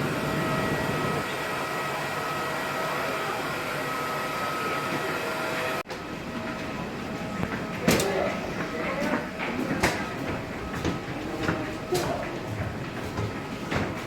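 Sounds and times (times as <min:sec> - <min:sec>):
airliner cabin hum with whine: 0:00.0 - 0:14.0.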